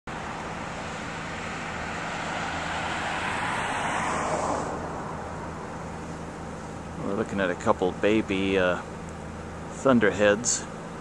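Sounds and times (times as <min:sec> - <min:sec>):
car passing on road: 0:00.1 - 0:10.1.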